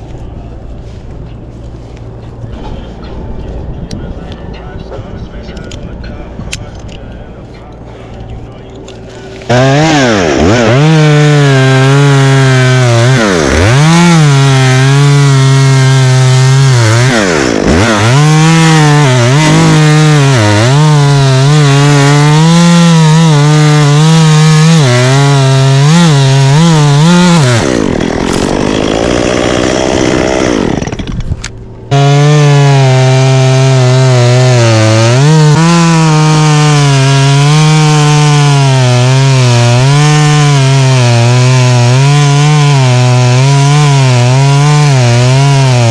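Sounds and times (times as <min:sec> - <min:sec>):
chainsaw cutting wood: 0:08.8 - 0:45.9.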